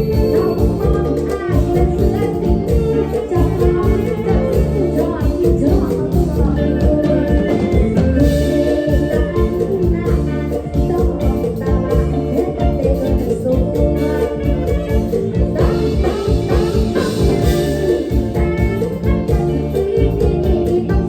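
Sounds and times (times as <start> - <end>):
fast drum beat: 0.0 - 21.0
live band dance music: 0.0 - 21.0.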